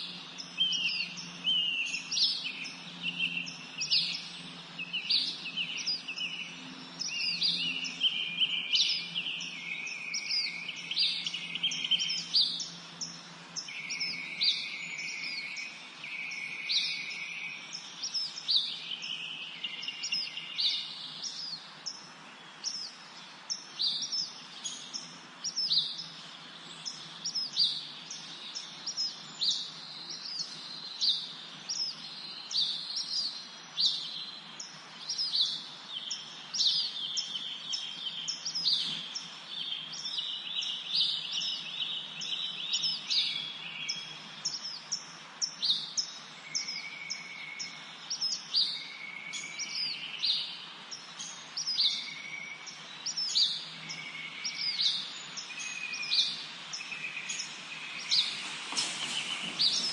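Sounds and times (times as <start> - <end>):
bird trill: 0.0 - 22.0, 26.8 - 59.9
songbirds chirping: 0.0 - 59.9.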